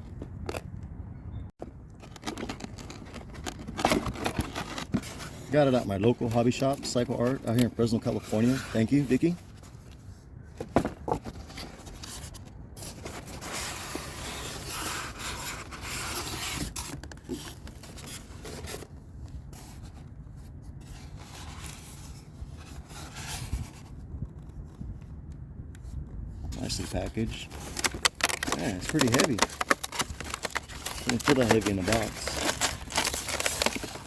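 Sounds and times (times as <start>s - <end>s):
cardboard and plastic packaging scraping: 1.6s - 24.0s, 26.5s - 34.0s.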